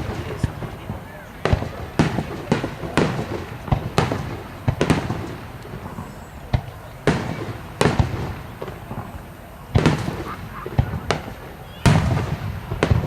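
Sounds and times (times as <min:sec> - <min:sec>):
fireworks bursting with crackle: 0:00.0 - 0:13.0.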